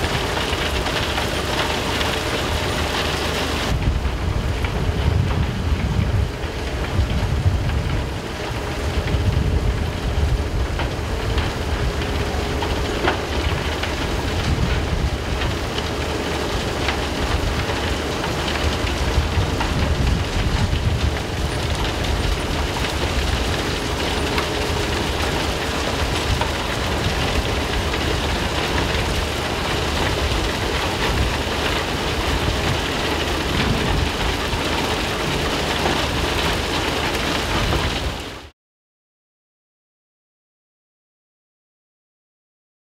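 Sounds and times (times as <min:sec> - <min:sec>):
machinery rumble and hiss: 0:00.0 - 0:38.5.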